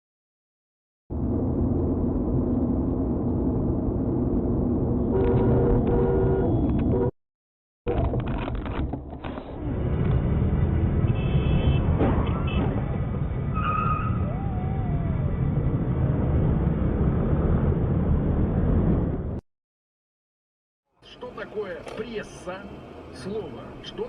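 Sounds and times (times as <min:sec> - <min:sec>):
car road and engine rumble: 0:01.1 - 0:07.1, 0:07.9 - 0:19.4, 0:21.0 - 0:24.0.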